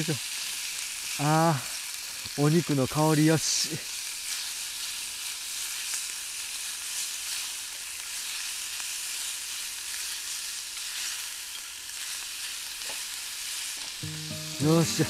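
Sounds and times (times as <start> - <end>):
meat frying in oil: 0.0 - 14.4.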